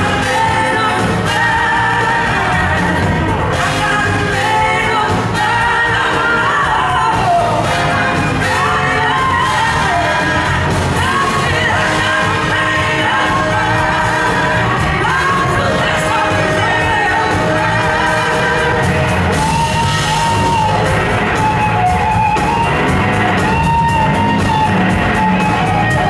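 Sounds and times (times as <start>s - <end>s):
woman singing: 0.0s - 20.9s
drums: 0.0s - 26.0s
electric guitars: 0.0s - 26.0s.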